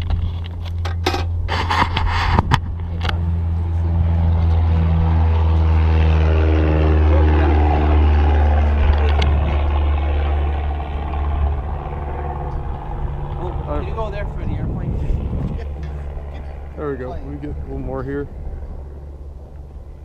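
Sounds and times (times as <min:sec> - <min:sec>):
aircraft engine drone: 0:00.0 - 0:20.0
passing aircraft engine: 0:00.0 - 0:20.0.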